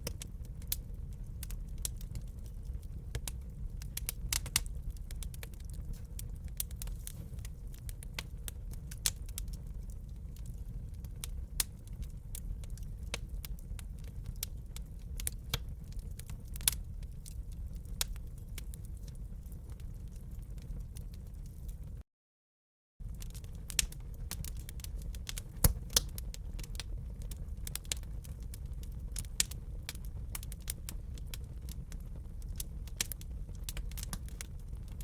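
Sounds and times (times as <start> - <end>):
low rumble of fire: 0.0 - 22.0, 23.0 - 35.0
wood fire crackling and popping: 0.0 - 22.0, 23.0 - 35.0.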